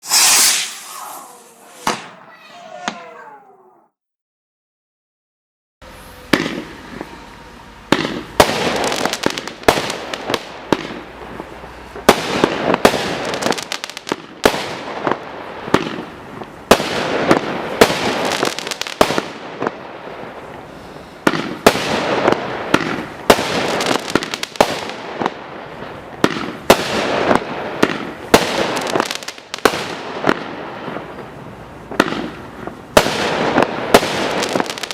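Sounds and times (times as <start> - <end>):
firework bangs: 0.0 - 3.7, 6.2 - 7.2, 7.9 - 20.5, 21.2 - 34.9
firework crackling: 0.0 - 3.7, 7.9 - 20.6, 21.4 - 34.9.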